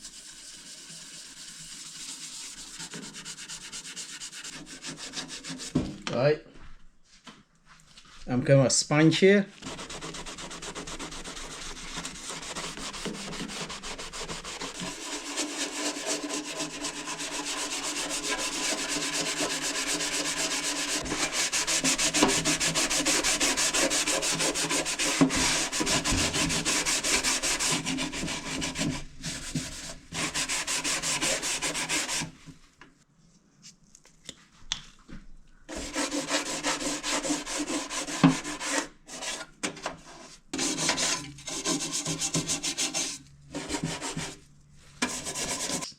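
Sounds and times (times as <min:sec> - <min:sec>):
sponge scrubbing: 0:00.0 - 0:05.9, 0:09.6 - 0:32.4, 0:35.7 - 0:45.9.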